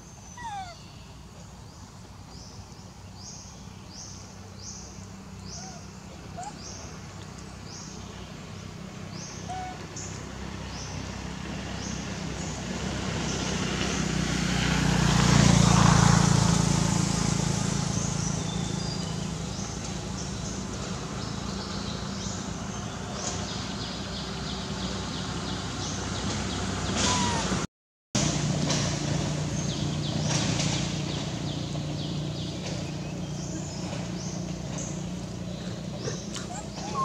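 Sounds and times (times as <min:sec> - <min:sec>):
passing engine hum: 0:00.0 - 0:37.0.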